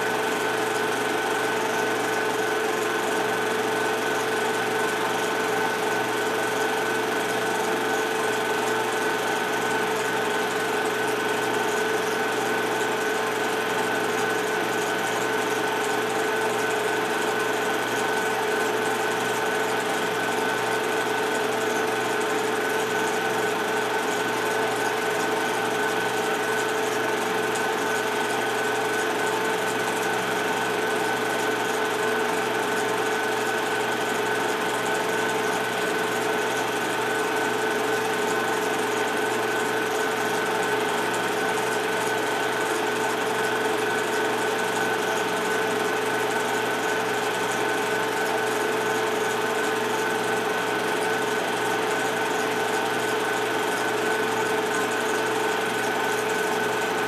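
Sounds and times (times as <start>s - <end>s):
film projector running: 0.0s - 57.0s.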